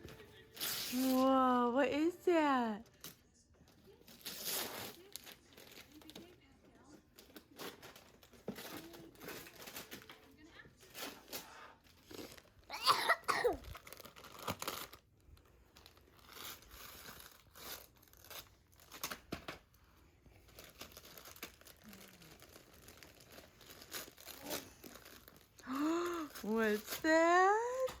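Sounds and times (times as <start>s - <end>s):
wrapping paper tearing and crumpling: 0.0s - 1.7s, 3.8s - 6.4s, 7.0s - 28.0s.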